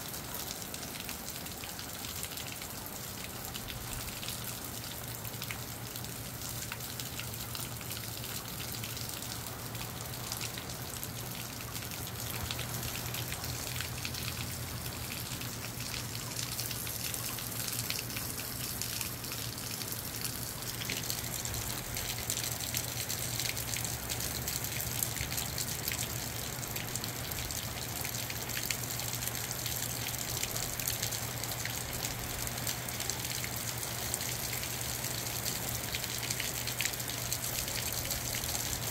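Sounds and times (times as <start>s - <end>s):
rain pattering: 0.0s - 38.9s
water running and splashing: 0.0s - 38.9s.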